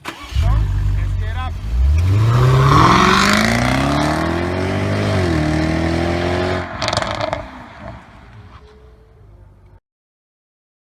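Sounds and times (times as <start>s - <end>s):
car engine accelerating hard: 0.0s - 9.8s
exhaust crackling: 0.0s - 9.8s.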